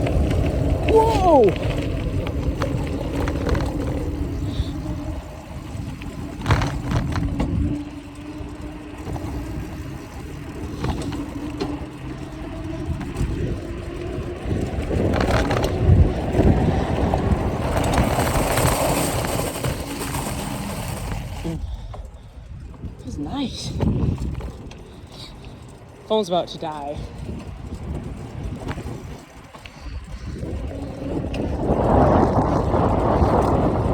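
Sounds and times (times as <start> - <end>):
bike rolling and rattling: 0.0 - 33.9.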